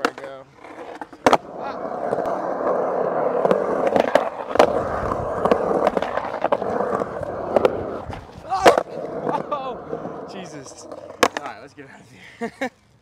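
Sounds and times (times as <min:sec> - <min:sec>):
skateboard clacks: 0:00.0 - 0:11.6
skateboard wheels rolling on concrete: 0:00.0 - 0:13.0.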